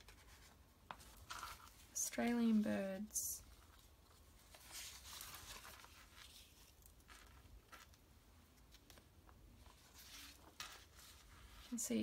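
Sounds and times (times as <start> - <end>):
magazine pages rustling: 0.0 - 2.6, 3.4 - 8.0, 8.6 - 12.0.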